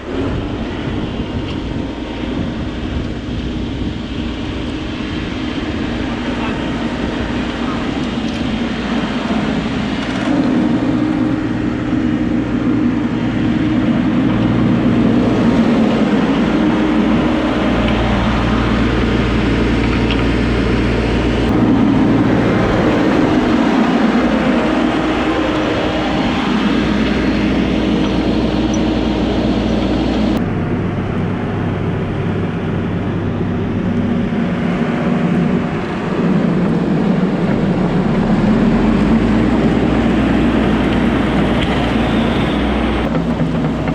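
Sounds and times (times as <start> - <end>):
diesel machinery engine hum: 0.0 - 43.9.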